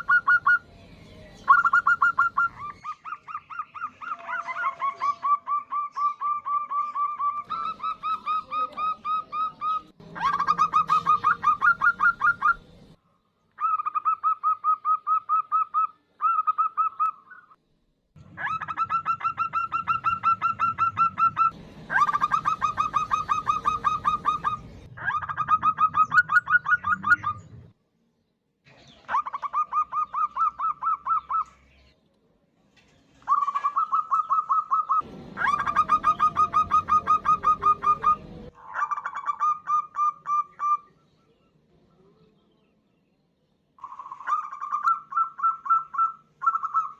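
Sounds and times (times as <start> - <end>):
dove giving rapid pulsed calls: 0.0 - 0.8, 1.4 - 12.9, 13.6 - 17.6, 18.4 - 27.5, 29.0 - 31.8, 33.2 - 40.9, 43.8 - 46.9.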